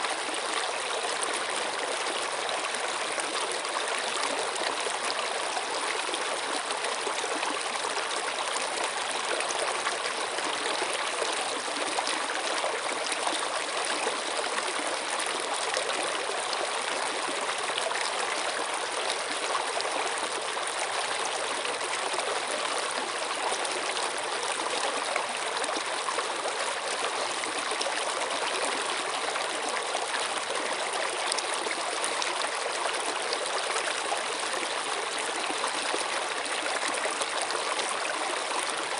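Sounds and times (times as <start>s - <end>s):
stream water rushing and trickling: 0.0s - 38.9s.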